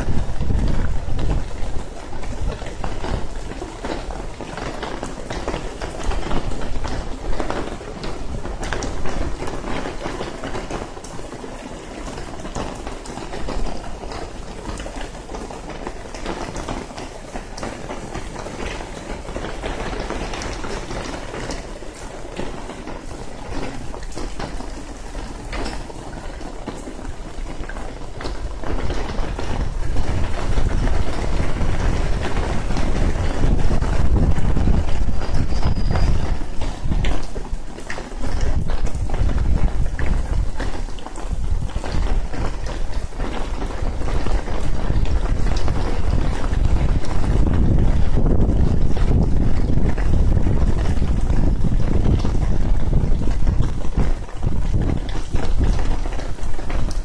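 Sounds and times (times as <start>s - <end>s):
heavy rain on wet pavement: 0.0s - 57.0s.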